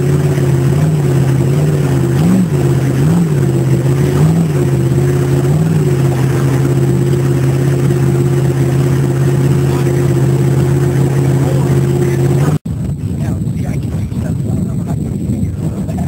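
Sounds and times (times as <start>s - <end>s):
engine revving: 0.0s - 16.0s
engine running with wavering note: 0.0s - 16.0s.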